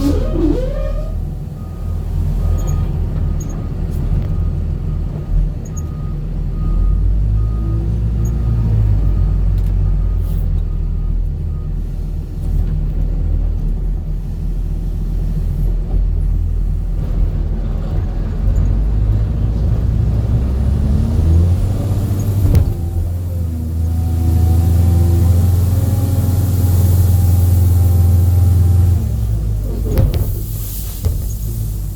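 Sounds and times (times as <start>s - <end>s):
road noise: 0.0s - 31.9s
vehicle engine rumble: 0.0s - 31.9s.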